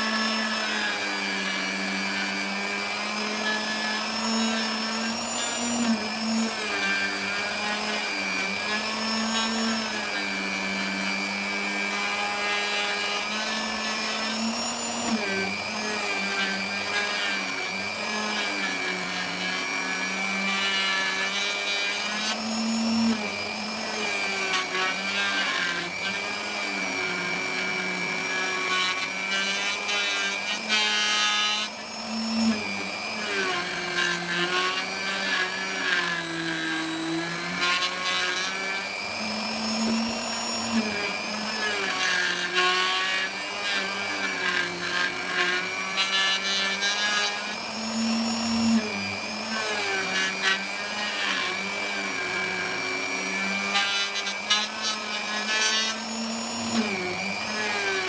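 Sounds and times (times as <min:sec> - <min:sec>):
wood router motor whine: 0:00.0 - 0:58.0.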